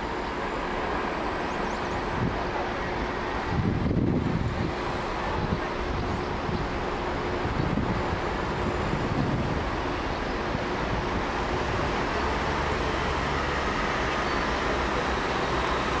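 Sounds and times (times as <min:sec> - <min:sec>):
low engine drone: 0:00.0 - 0:16.0
road traffic noise: 0:00.0 - 0:16.0.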